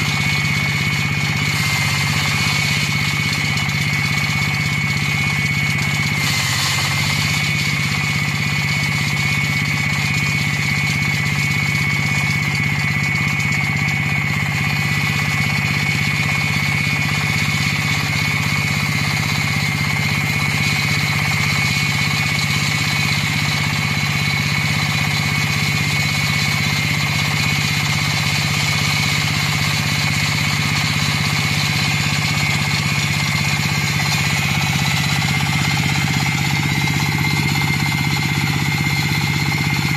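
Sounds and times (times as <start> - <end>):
diesel engine droning: 0.0 - 39.9
saw blade whining through concrete: 0.0 - 39.9.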